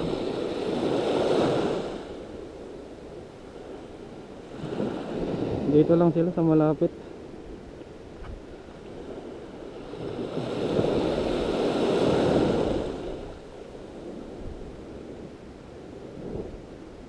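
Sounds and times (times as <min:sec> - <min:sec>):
small waves washing on sand: 0:00.0 - 0:17.0.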